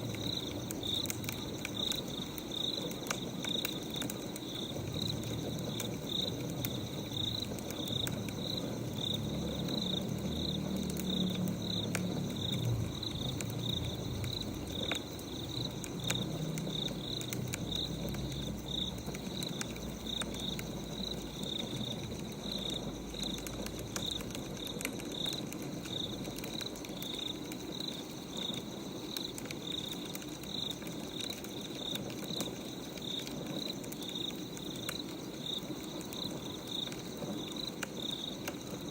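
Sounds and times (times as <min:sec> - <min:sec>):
crickets chirping: 0:00.0 - 0:38.9
wood fire crackling: 0:00.0 - 0:38.9.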